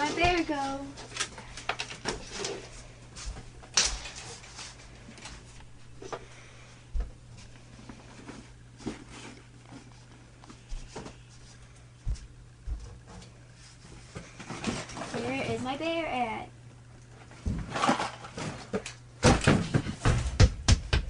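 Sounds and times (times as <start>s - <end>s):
thumps and rustles of things moved: 0.0s - 6.3s, 6.9s - 15.7s, 17.2s - 21.0s
steady low hum: 0.0s - 21.0s.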